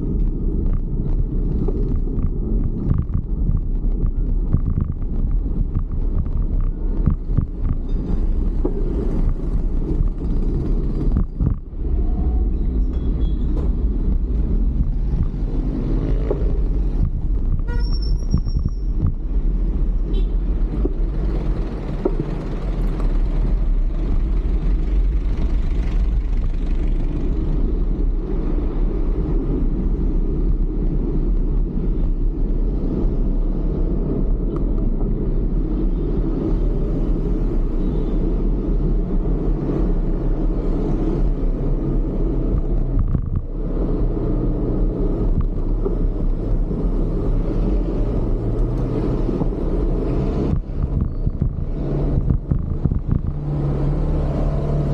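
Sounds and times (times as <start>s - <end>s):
wind on microphone: 0.0s - 26.5s, 27.3s - 54.9s
road traffic noise: 0.0s - 54.9s.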